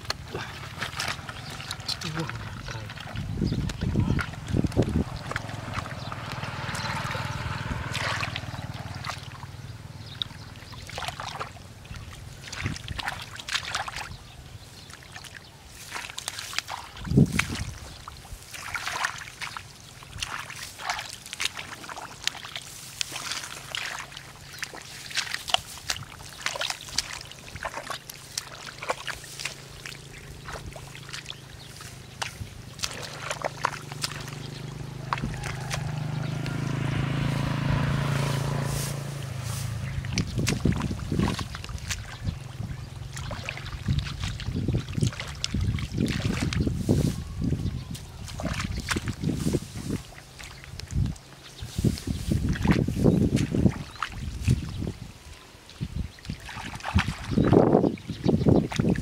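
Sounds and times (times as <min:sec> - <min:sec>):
hands squelching through wet mud: 0:00.0 - 0:59.0
splashes in muddy water: 0:00.0 - 0:59.0.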